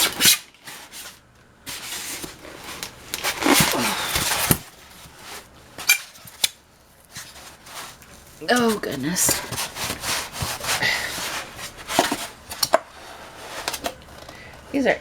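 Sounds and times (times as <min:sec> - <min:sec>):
cardboard packaging rustling: 0:00.0 - 0:14.8.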